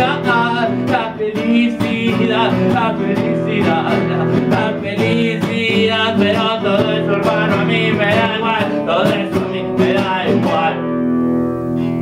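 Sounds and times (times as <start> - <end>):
classical guitar strumming: 0.0 - 12.0.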